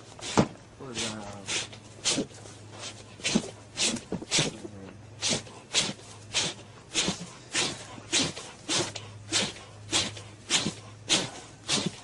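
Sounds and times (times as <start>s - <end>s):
bear cub hissing: 0.1s - 4.6s, 5.2s - 12.0s.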